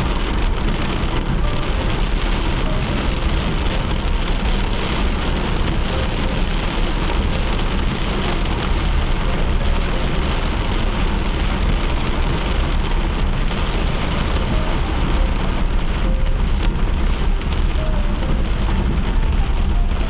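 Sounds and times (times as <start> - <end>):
car driving on wet road: 0.0 - 20.0
rain falling: 0.0 - 20.0.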